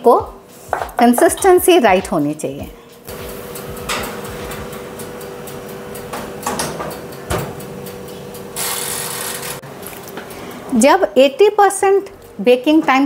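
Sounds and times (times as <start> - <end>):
oven humming: 0.1 - 13.0.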